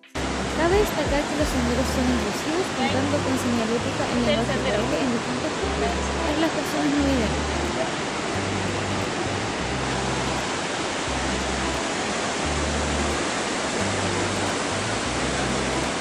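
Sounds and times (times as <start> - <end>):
background music: 0.0 - 16.0
waterfall roaring: 0.0 - 16.0.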